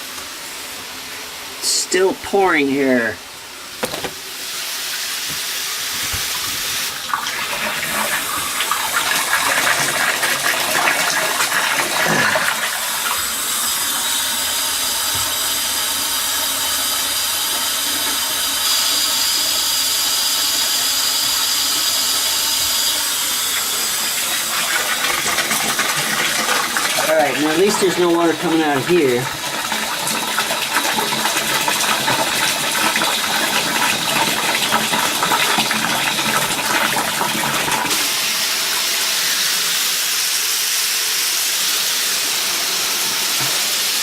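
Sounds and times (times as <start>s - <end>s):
water running from a tap: 3.8s - 44.0s
water pouring from a leak: 4.4s - 44.0s.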